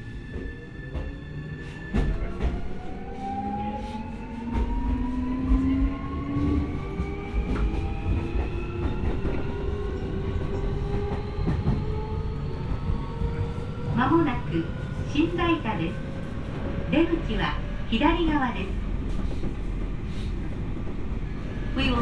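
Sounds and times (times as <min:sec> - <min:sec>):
low train running rumble: 0:00.0 - 0:22.0.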